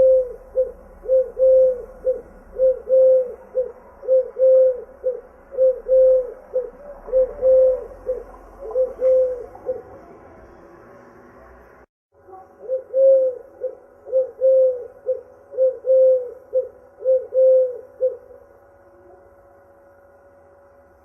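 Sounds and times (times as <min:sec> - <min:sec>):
dove cooing: 0:00.0 - 0:10.2, 0:12.3 - 0:19.3.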